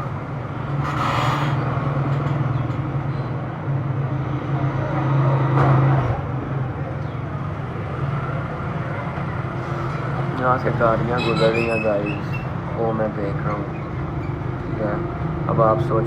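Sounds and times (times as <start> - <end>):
vehicles passing on street: 0.0 - 16.0.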